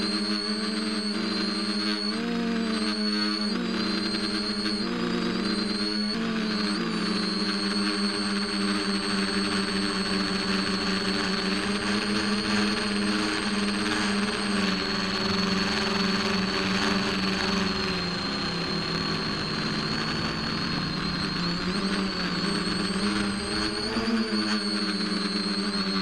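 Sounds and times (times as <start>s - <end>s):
model plane motor whining: 0.0s - 26.0s.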